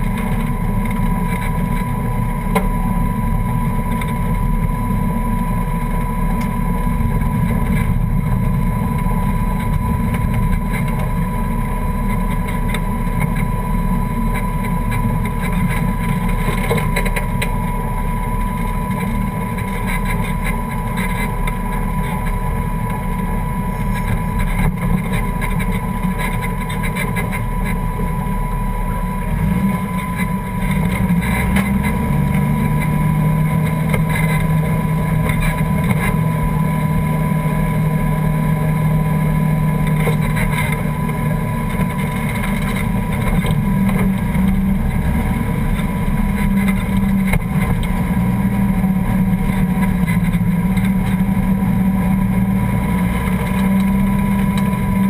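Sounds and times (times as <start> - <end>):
car engine running at low revs: 0.0 - 55.0.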